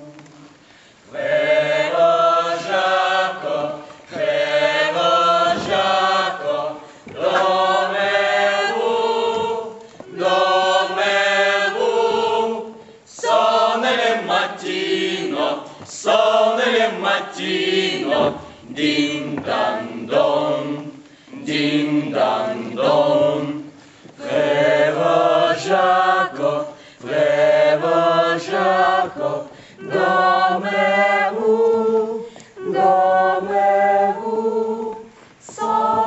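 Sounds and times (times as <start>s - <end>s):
group singing unaccompanied: 0.0s - 36.0s.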